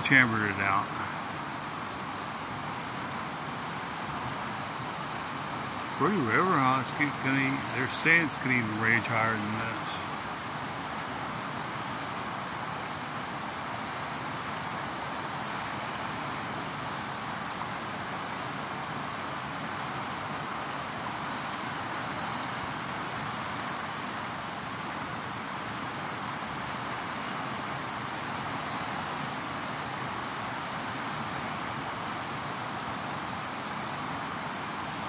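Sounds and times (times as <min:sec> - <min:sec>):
river rushing over rapids: 0:00.0 - 0:35.0.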